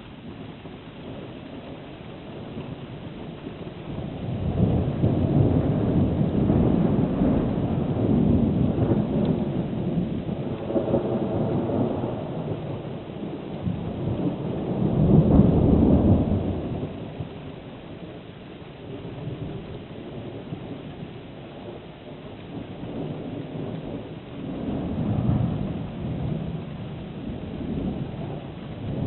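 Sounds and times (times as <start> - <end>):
thunder rumbling: 0.0 - 29.0.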